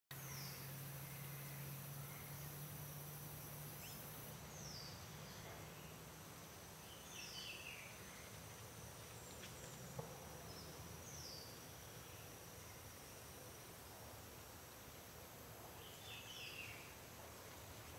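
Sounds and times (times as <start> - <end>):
faint low hum: 0.1 - 17.9.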